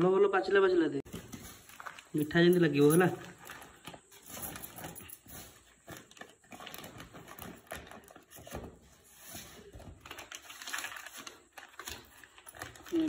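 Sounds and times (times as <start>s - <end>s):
plastic rustling: 1.1s - 13.0s.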